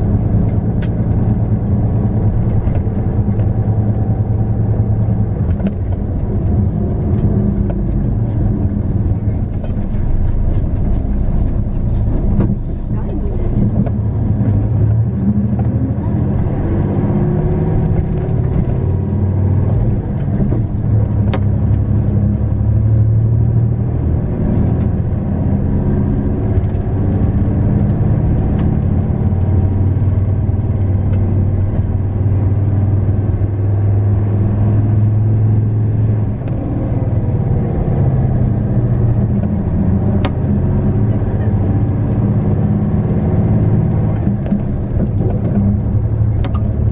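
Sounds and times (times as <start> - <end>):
bus diesel engine running: 0.0 - 46.9
road noise: 0.0 - 46.9.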